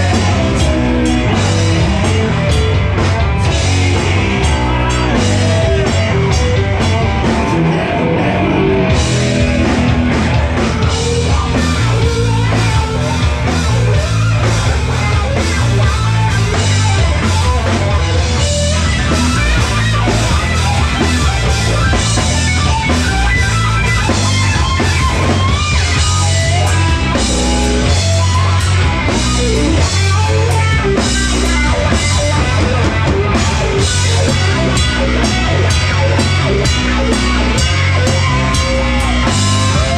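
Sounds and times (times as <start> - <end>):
distorted electric guitars: 0.0 - 39.9
drum kit: 0.0 - 39.9.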